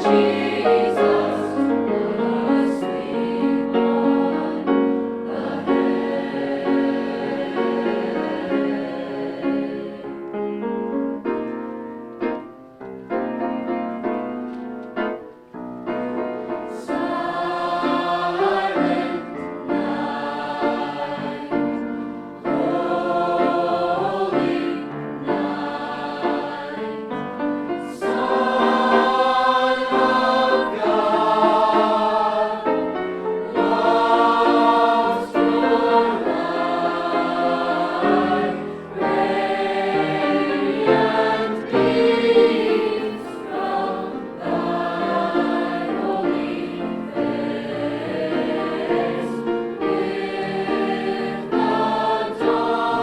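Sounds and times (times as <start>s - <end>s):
choir singing: 0.0s - 11.2s, 16.6s - 53.0s.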